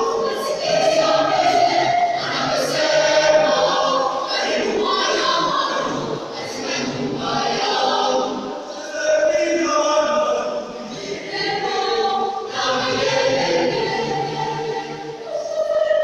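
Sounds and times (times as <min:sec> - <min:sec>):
youth choir singing: 0:00.0 - 0:16.0.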